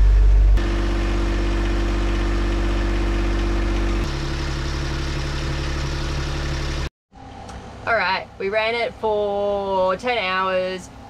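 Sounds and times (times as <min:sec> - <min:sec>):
diesel engine running: 0:00.0 - 0:09.2.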